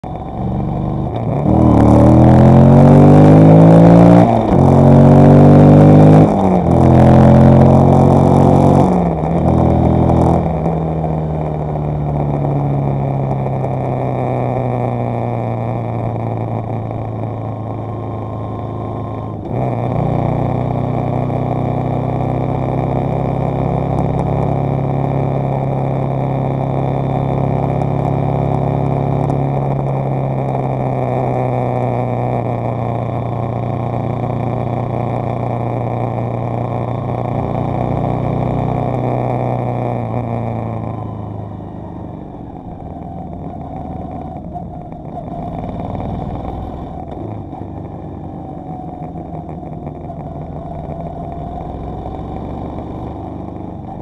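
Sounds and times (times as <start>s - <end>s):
vehicle engine accelerating through gears: 0.0s - 54.0s.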